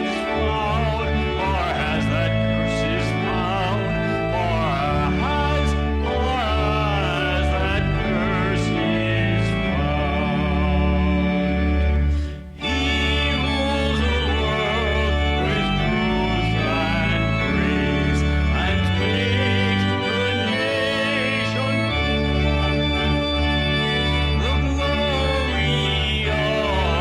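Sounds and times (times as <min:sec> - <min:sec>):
organ music: 0:00.0 - 0:27.0.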